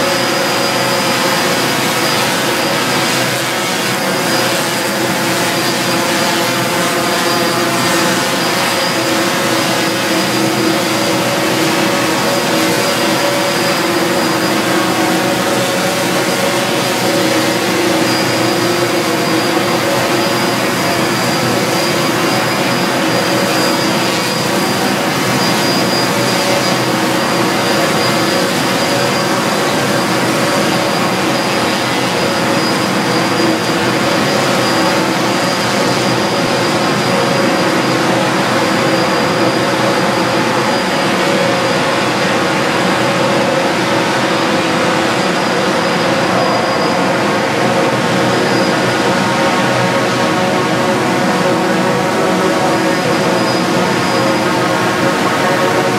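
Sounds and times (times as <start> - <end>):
drone propellers droning: 0.0 - 55.9
thin high whine: 0.0 - 55.9.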